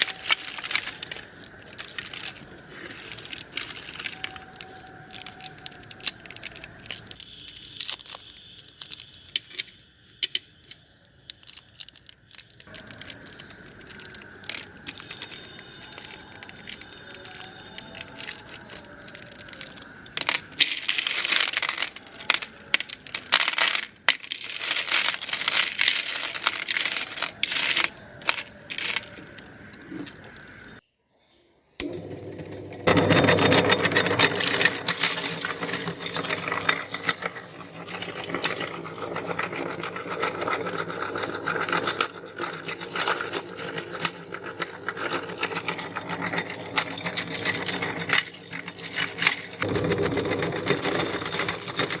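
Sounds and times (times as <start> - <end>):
meat grinder crushing candies: 0.0 - 9.6, 11.3 - 30.3, 32.9 - 52.0.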